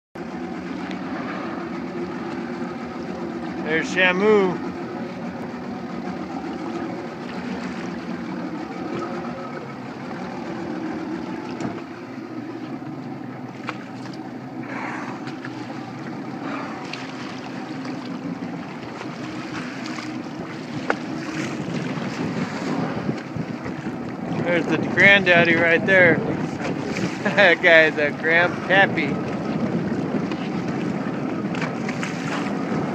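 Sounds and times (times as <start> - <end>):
motorboat engine humming: 0.2 - 32.9
sea noise: 0.2 - 32.9
wind: 0.2 - 32.9.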